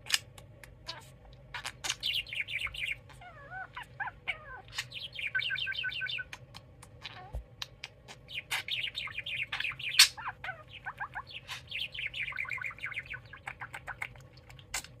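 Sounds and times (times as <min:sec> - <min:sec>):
budgerigar chittering: 0:01.6 - 0:15.0.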